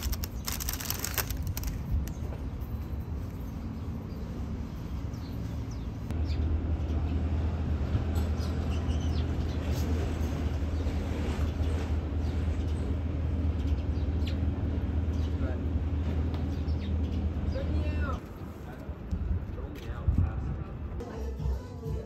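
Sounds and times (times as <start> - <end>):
birds chirping: 0.0 - 7.5, 8.2 - 18.8
low rumble of traffic: 0.0 - 21.1.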